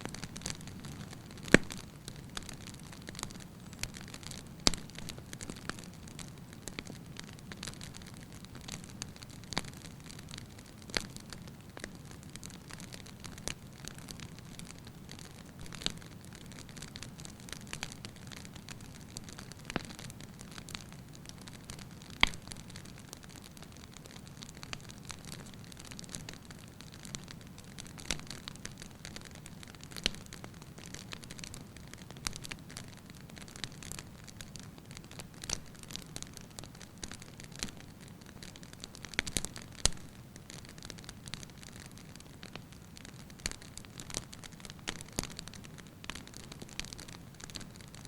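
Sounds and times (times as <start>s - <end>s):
low rustle of flame: 0.0s - 48.0s
wood fire crackling: 0.0s - 48.0s.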